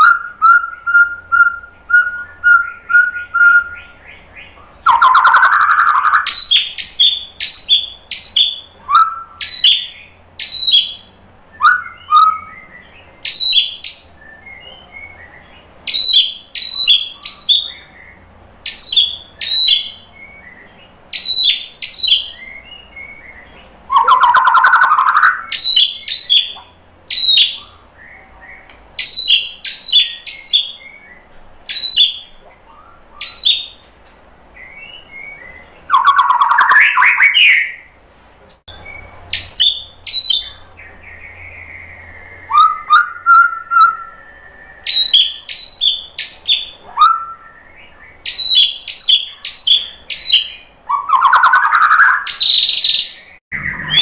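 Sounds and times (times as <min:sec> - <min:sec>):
lower whistled phrases: 0:00.0 - 0:04.0, 0:04.9 - 0:33.8, 0:34.6 - 0:37.9, 0:38.7 - 0:54.0
bird singing high notes: 0:00.0 - 0:33.8, 0:38.7 - 0:54.0.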